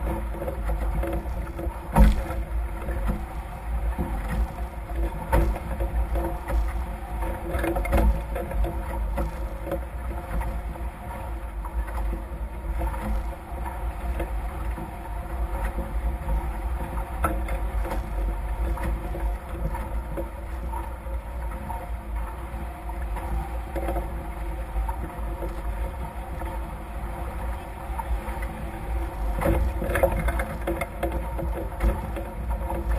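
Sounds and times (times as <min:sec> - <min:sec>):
water rushing past boat hulls: 0:00.0 - 0:32.9
wind buffeting microphone: 0:00.0 - 0:32.9.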